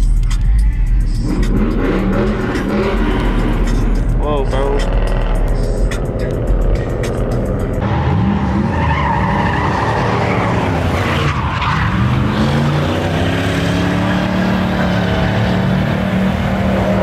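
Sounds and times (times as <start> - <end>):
engine revving: 1.0 - 17.0.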